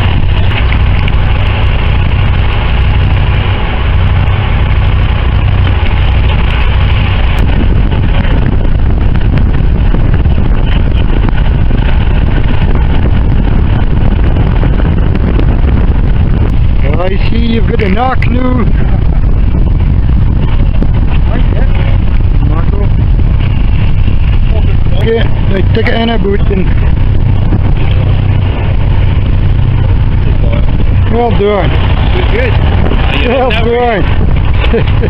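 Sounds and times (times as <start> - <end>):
boat engine rumbling: 0.0 - 35.0.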